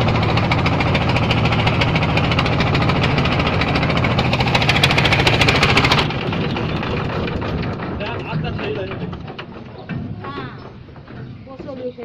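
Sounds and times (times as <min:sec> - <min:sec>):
boat engine knocking: 0:00.0 - 0:12.0.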